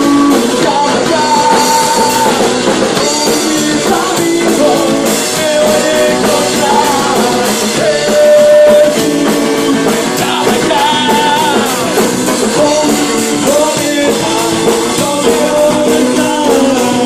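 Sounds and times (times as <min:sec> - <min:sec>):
acoustic guitar strumming: 0:00.0 - 0:17.0
man singing into microphone: 0:00.0 - 0:17.0.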